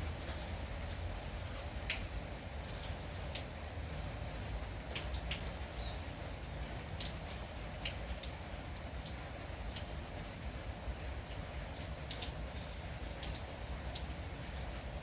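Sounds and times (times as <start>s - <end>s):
light rain patter: 0.0s - 15.0s
drops ticking on a surface: 1.2s - 3.6s, 4.4s - 15.0s.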